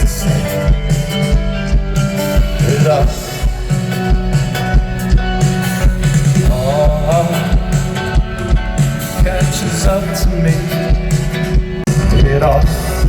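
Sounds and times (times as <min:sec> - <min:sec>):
live rock band: 0:00.0 - 0:13.0
person singing: 0:00.0 - 0:13.0.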